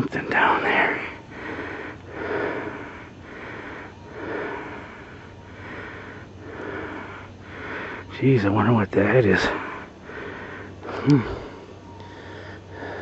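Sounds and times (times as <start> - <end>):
person breathing hard: 0.8 - 8.1, 9.5 - 13.0.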